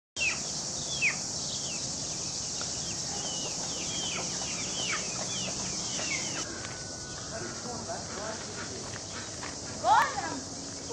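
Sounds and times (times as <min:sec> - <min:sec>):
birds chirping: 0:00.2 - 0:10.9
steady high-pitched hiss: 0:00.2 - 0:10.9.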